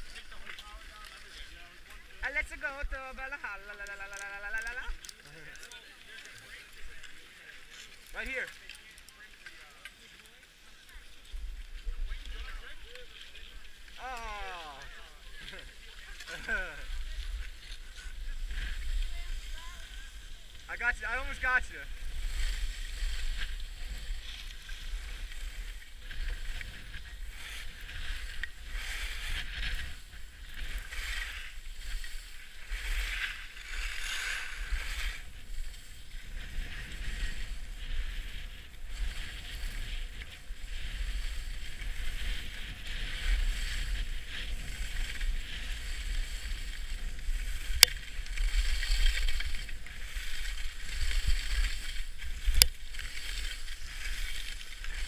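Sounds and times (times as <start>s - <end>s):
skis scraping over snow: 0.0s - 55.0s
wind rumbling on microphone: 10.9s - 55.0s.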